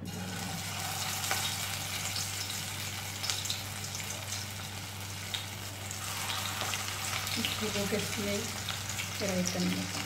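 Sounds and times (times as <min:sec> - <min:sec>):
batter sizzling in hot oil: 0:00.1 - 0:10.0.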